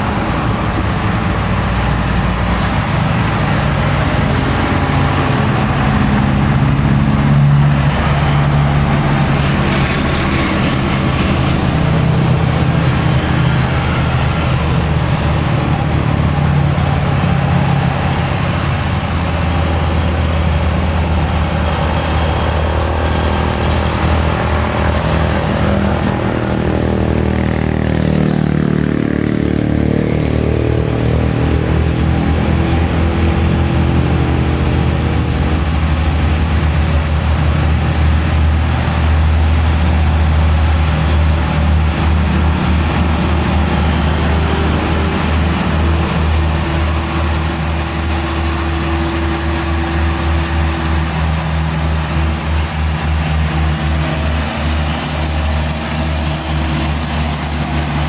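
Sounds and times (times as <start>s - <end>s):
diesel truck driving past: 0.0s - 58.0s.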